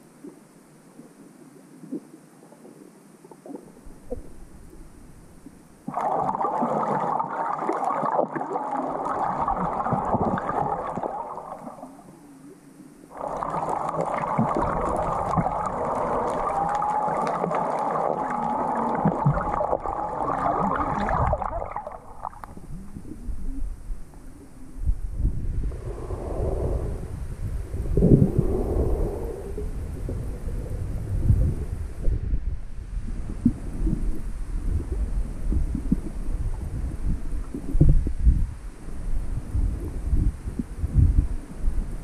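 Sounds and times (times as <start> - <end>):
underwater rushing and crackling: 0.0 - 42.0.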